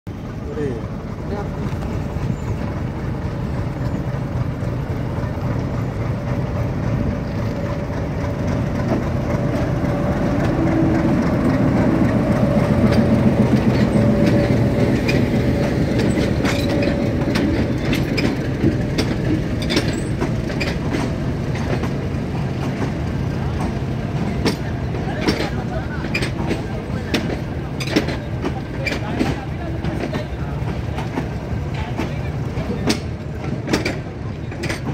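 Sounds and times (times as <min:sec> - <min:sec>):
diesel locomotive engine drone: 0:00.1 - 0:34.9
wheels clicking over rail joints: 0:00.2 - 0:34.9.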